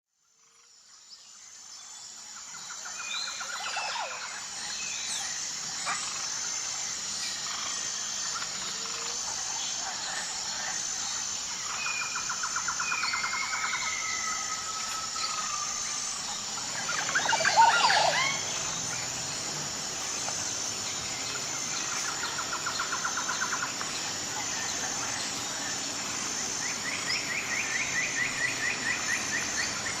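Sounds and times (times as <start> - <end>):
pulsing high-pitched buzz: 0.8 - 30.0
birds chirping and trilling: 2.6 - 30.0.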